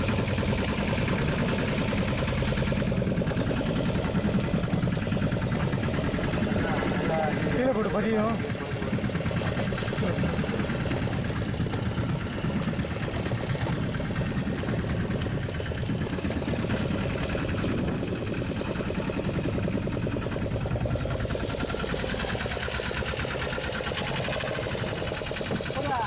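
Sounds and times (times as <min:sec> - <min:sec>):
boat engine chugging: 0:00.0 - 0:26.0.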